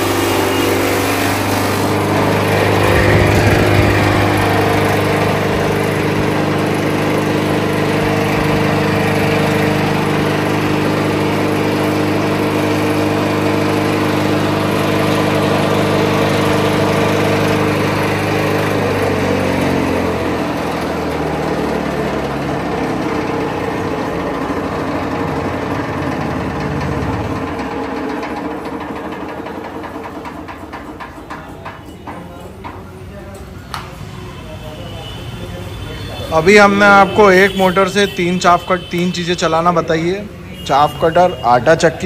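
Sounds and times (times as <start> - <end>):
motor driving mill humming and clattering: 0.0 - 34.1.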